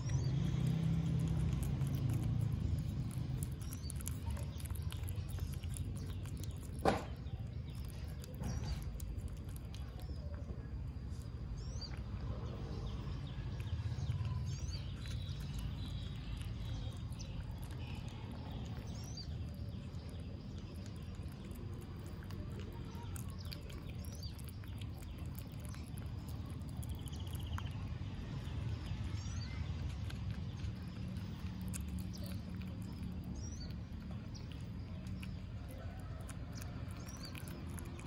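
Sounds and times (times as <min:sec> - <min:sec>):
low background rumble: 0:00.0 - 0:38.0
otter chewing wet smacking: 0:00.0 - 0:38.0.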